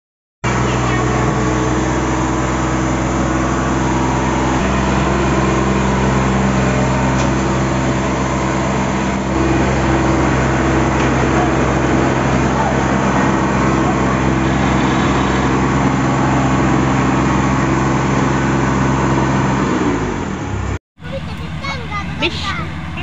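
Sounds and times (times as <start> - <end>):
combine harvester diesel engine: 0.4 - 23.0.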